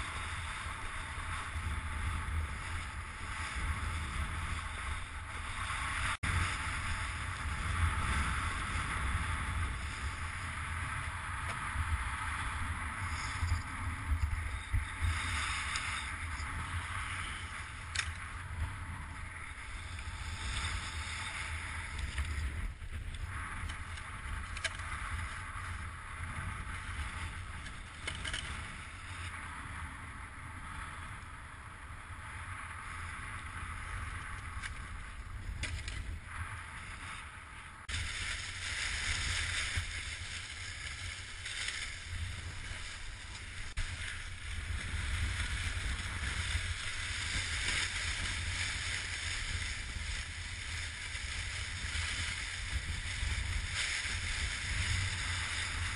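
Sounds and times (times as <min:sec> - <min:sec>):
strong wind buffeting microphone: 0:00.0 - 0:55.9.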